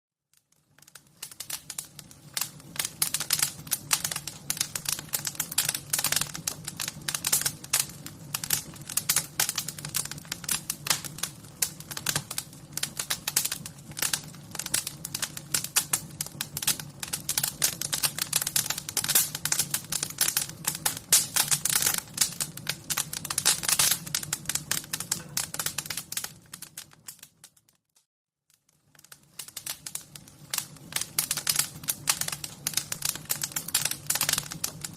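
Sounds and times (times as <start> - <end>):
wood fire crackling: 0.3 - 27.9, 28.5 - 34.9.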